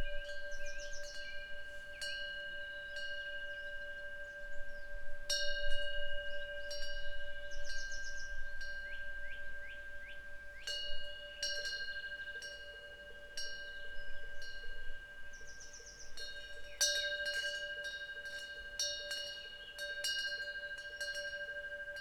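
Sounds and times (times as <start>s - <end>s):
wind bell ringing: 0.0s - 22.0s.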